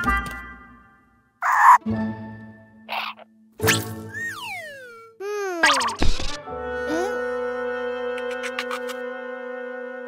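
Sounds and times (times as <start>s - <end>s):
cartoon background music: 0.0s - 10.0s.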